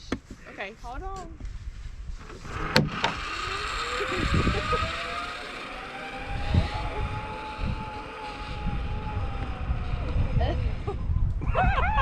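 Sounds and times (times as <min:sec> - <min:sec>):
wind buffeting microphone: 0:00.6 - 0:12.0
pulley whining on steel cable: 0:02.1 - 0:12.0.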